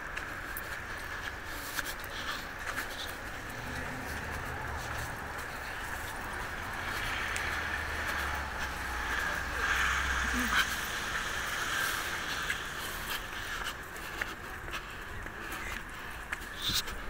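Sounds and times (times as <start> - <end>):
car engine rumble: 0.0 - 16.3
street background noise: 0.0 - 17.0.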